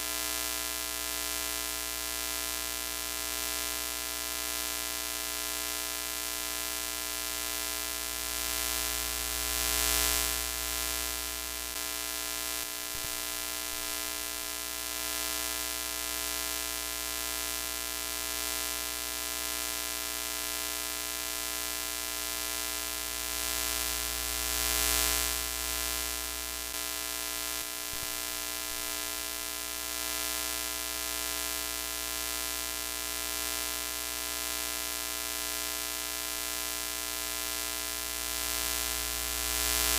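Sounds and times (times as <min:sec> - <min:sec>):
television static buzz and hiss: 0:06.6 - 0:17.6, 0:18.2 - 0:39.9.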